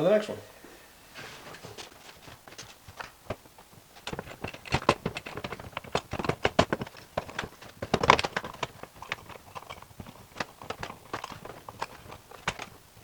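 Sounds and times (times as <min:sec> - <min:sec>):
hand tools clicking on plastic: 0:01.6 - 0:13.0.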